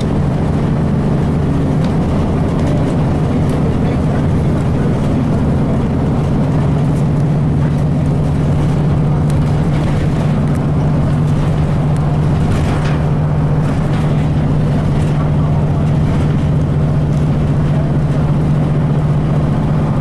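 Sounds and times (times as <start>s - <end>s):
bus diesel engine droning: 0.0s - 20.0s
faint rattles: 0.0s - 20.0s.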